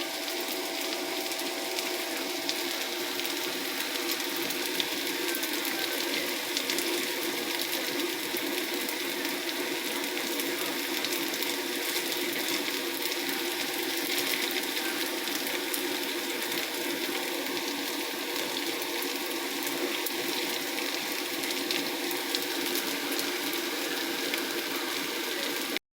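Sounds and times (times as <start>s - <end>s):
food deep-frying in oil: 0.0s - 25.8s.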